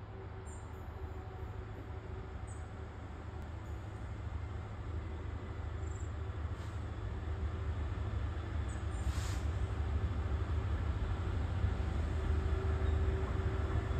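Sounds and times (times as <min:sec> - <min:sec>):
diesel train rumble: 0:00.0 - 0:13.9.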